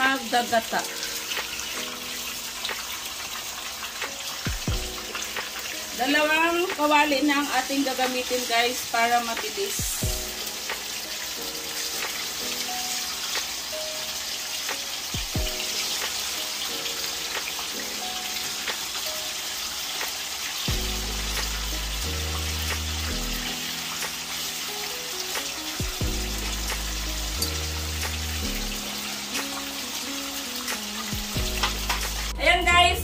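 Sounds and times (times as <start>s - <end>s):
fish sizzling in frying pan: 0.0s - 32.5s
background music: 0.0s - 33.0s.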